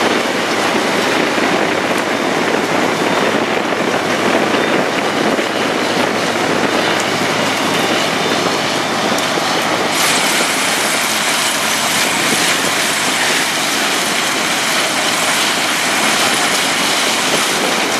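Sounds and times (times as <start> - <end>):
train wagons rattling on track: 0.0 - 17.9.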